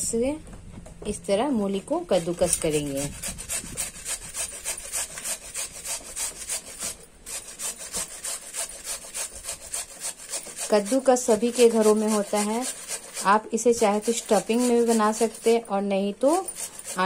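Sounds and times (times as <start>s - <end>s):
radish rasping on a grater: 2.1s - 15.6s, 16.2s - 17.0s.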